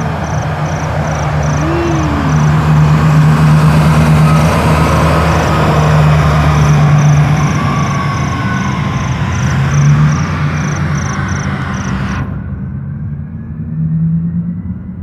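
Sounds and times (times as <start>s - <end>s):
dump truck diesel engine passing: 0.0s - 14.1s.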